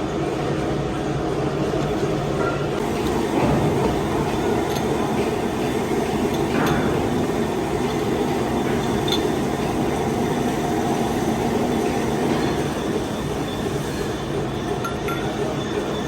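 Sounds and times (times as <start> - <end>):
metal lathe humming: 2.8 - 16.0.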